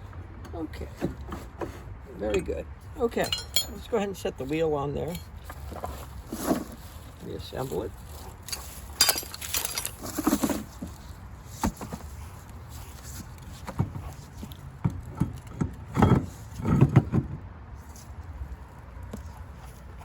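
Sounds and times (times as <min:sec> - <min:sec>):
wheel clunking and scraping: 0:00.0 - 0:20.0.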